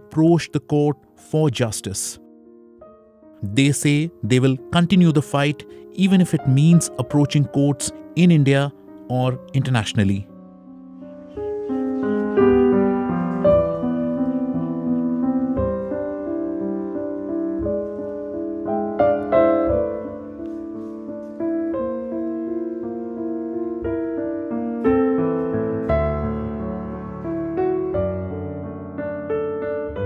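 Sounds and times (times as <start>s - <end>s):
piano chords ringing: 0.0s - 30.0s.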